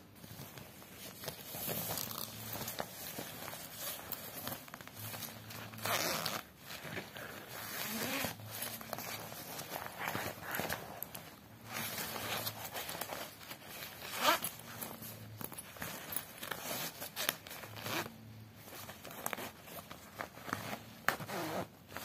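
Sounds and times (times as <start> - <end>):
nylon fabric rustling: 0.0 - 22.0.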